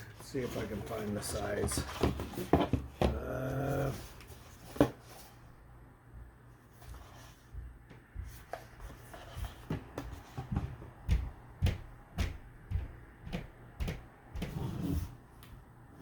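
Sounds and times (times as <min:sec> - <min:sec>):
cardboard rubbing and shuffling: 0:00.0 - 0:05.6, 0:06.6 - 0:15.3.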